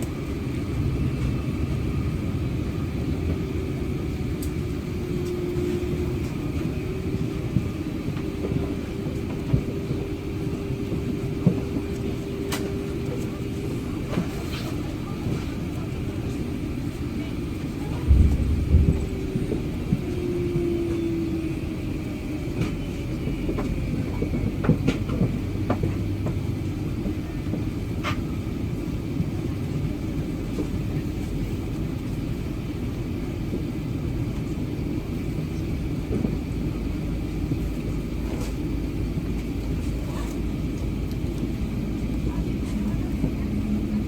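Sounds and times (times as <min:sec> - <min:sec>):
airplane cabin low rumble: 0:00.0 - 0:44.0.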